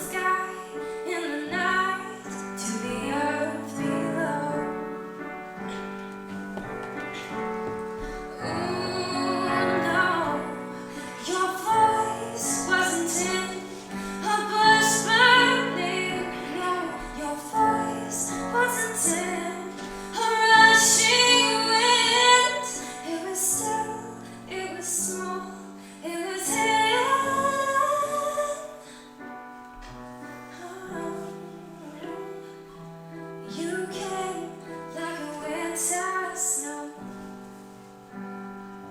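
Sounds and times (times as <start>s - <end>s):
woman singing slow song: 0.0s - 5.0s, 8.1s - 29.1s, 30.5s - 32.8s, 33.4s - 37.3s.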